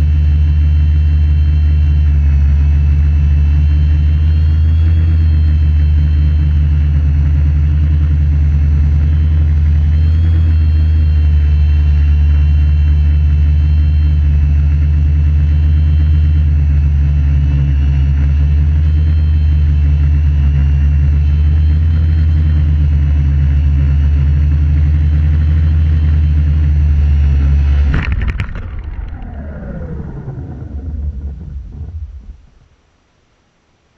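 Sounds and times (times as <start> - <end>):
drone propellers whirring: 0.0 - 32.8.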